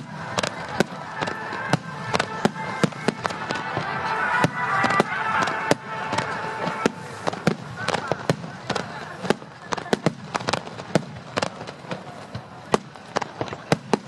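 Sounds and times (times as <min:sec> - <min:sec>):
fireworks bangs: 0:00.0 - 0:14.0
fireworks crackle: 0:00.0 - 0:14.0.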